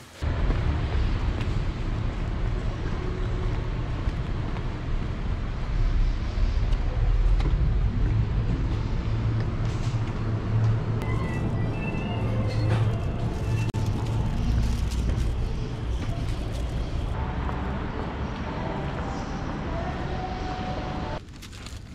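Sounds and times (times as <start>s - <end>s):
street traffic rumble: 0.0s - 21.9s.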